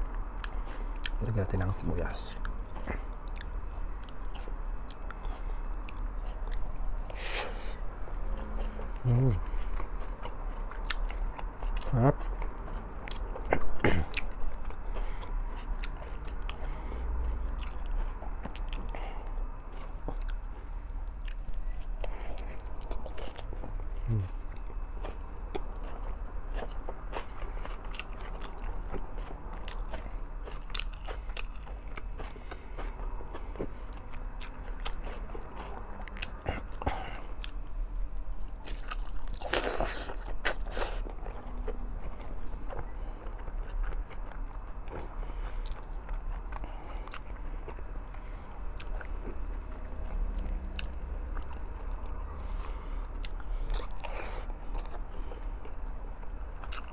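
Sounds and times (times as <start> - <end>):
chewing and biting food: 0.0 - 56.9
steady low hum: 0.0 - 56.9.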